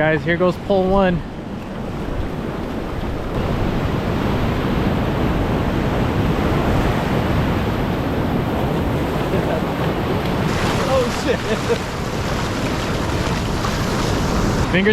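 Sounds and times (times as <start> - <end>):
wind rumbling on microphone: 0.7 - 14.9
ocean surf washing onto beach: 2.3 - 14.9.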